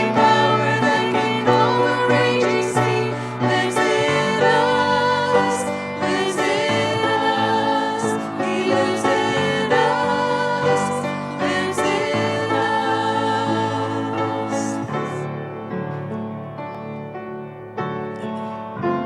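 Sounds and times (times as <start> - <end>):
congregation singing a hymn: 0.0 - 16.0
steady musical accompaniment: 0.0 - 18.3.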